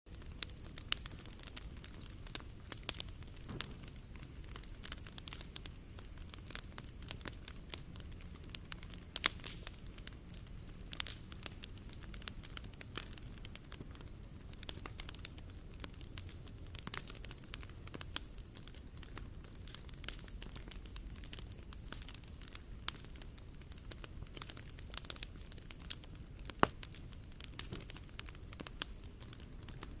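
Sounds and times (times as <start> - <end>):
wood fire crackling and popping: 0.1 - 30.0.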